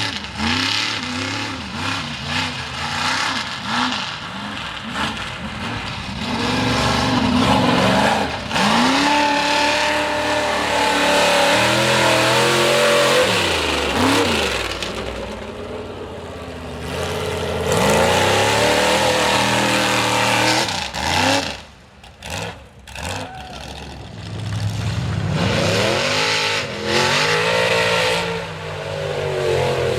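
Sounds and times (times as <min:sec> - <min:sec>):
truck engine revving hard: 0:00.0 - 0:15.8, 0:16.5 - 0:29.9.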